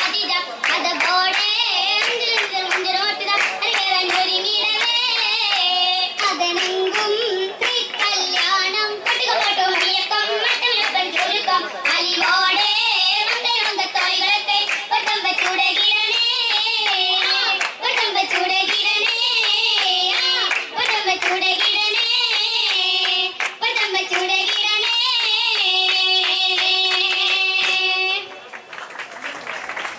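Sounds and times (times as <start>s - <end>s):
girls singing in unison: 0.0s - 28.2s
group hand clapping: 0.0s - 29.9s.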